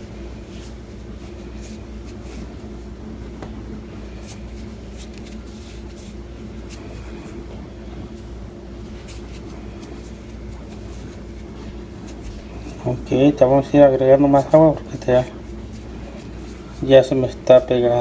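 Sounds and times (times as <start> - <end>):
hands kneading sticky dough: 0.0 - 18.0
low steady hum: 0.0 - 18.0.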